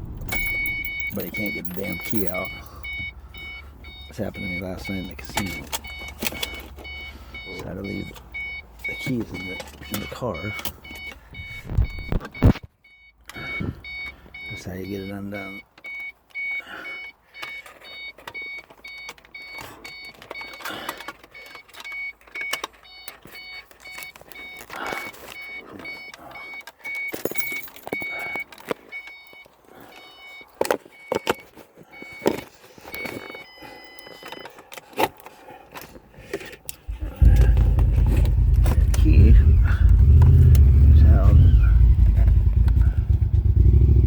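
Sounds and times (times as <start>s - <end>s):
car warning chime beeping: 0.0s - 34.6s, 36.8s - 44.0s.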